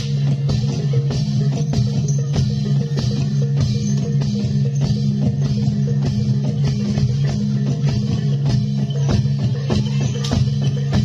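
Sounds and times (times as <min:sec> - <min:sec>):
drum and percussion strokes: 0:00.0 - 0:11.0.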